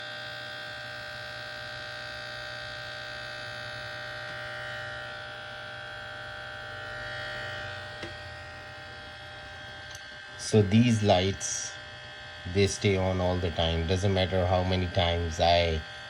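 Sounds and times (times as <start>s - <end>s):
laptop cooling fans whining: 0.0s - 16.0s.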